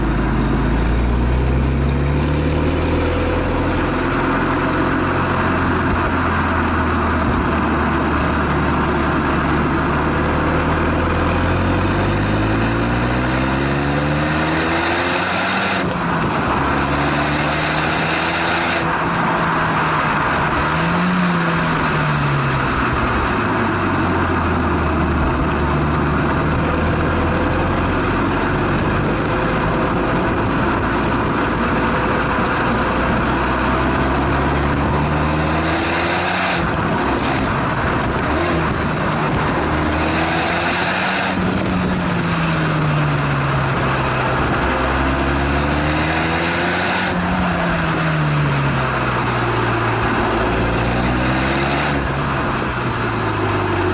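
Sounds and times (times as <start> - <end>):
car engine accelerating: 0.0 - 53.9
wind and road noise: 0.0 - 53.9.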